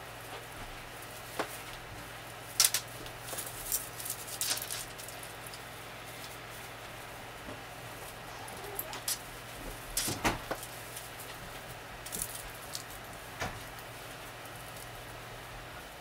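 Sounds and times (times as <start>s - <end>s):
artificial tree branches rustling: 0.0s - 16.0s.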